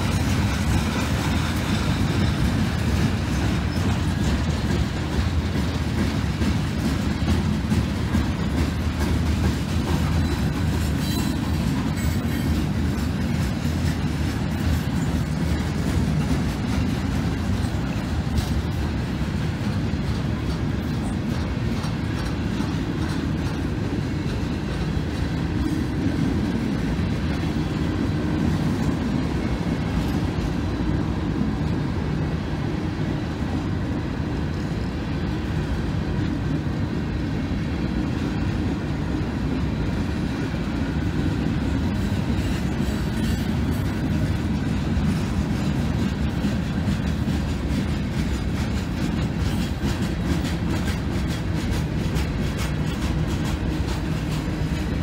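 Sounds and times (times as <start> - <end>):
wheels clicking over rail joints: 0.0 - 32.2, 39.5 - 55.0
freight train rumble: 0.0 - 55.0.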